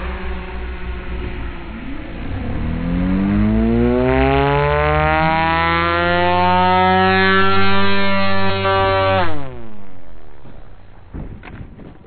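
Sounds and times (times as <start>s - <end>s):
electric motor propeller whine: 0.0s - 10.9s.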